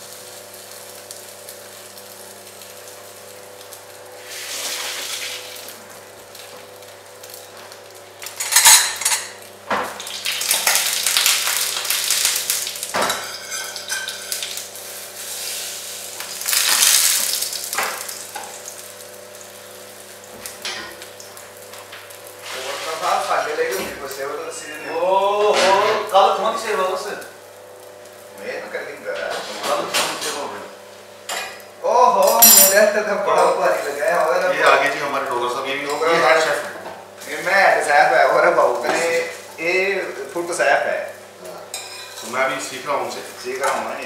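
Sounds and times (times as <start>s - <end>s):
bread frying in oil: 0.0s - 44.0s.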